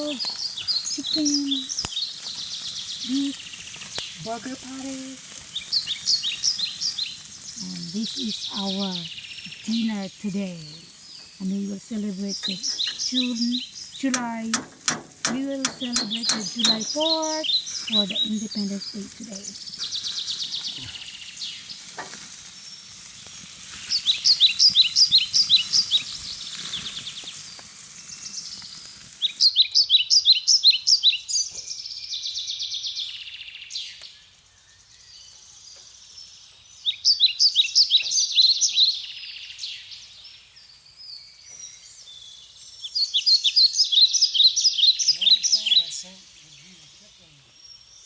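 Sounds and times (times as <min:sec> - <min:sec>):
songbird singing: 0:00.0 - 0:48.0.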